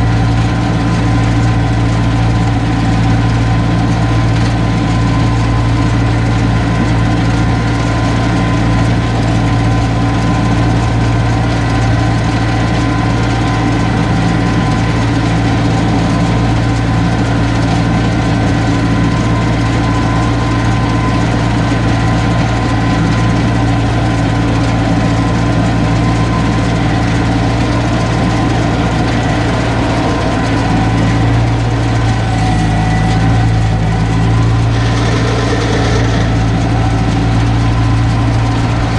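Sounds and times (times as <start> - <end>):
steady machine whine: 0.0 - 38.9
tractor engine running under load: 0.0 - 38.9.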